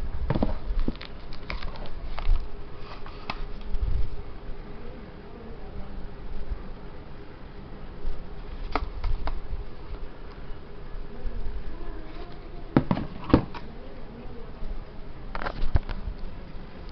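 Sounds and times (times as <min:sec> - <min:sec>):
steady low buzz: 0:00.0 - 0:16.9.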